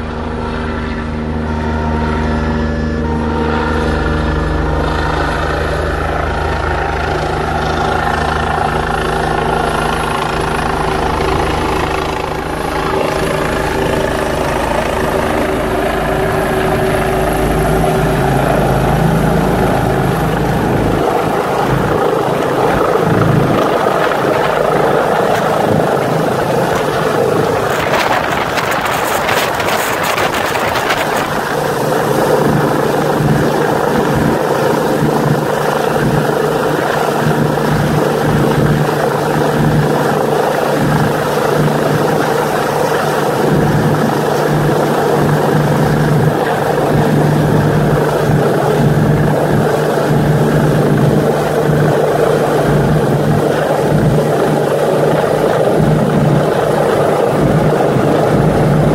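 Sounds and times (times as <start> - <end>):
helicopter hovering overhead: 0.0 - 58.9
steady hum in rotor noise: 0.0 - 58.9.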